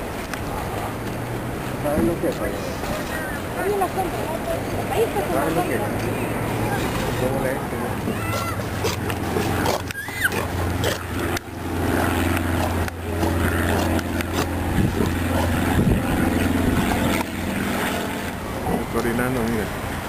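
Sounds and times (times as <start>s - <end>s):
steady low hum: 0.0s - 20.0s
sea lions growling and barking: 0.3s - 19.1s.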